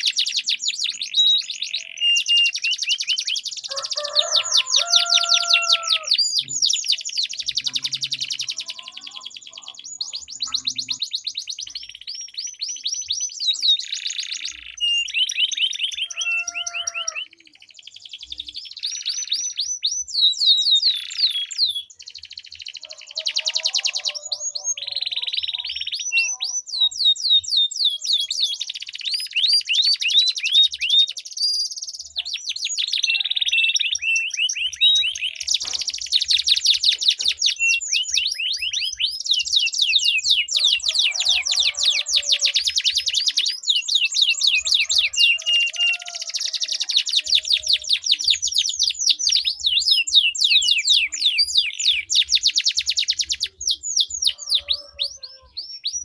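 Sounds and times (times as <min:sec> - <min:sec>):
canaries singing trills: 0:00.0 - 0:56.0.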